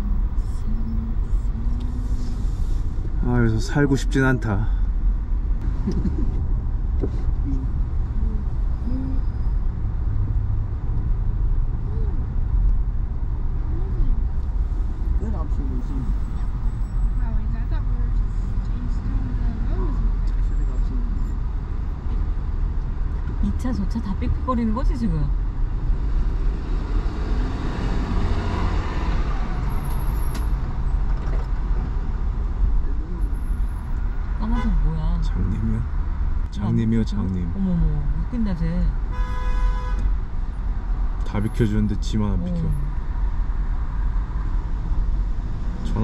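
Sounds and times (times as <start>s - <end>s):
car engine rumble: 0.0s - 46.0s
road noise: 0.0s - 46.0s.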